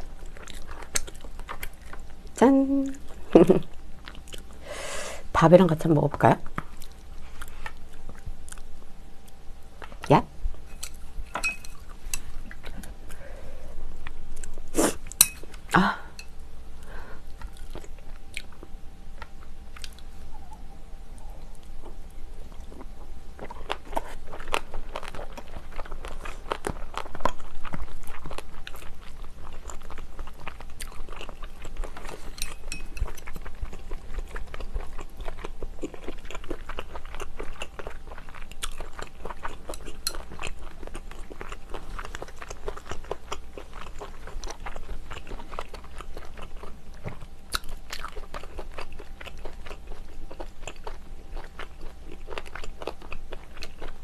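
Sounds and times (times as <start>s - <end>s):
person chewing food: 0.0s - 2.2s, 3.0s - 4.6s, 6.5s - 20.6s, 21.2s - 54.0s.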